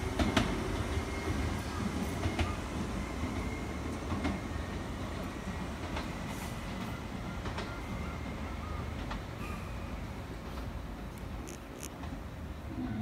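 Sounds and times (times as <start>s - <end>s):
electric train low rumble: 0.0s - 13.0s.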